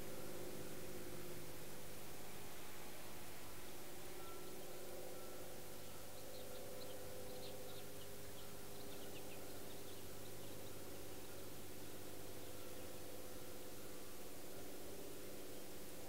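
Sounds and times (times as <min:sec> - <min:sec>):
steady hiss and low hum: 0:00.0 - 0:16.0.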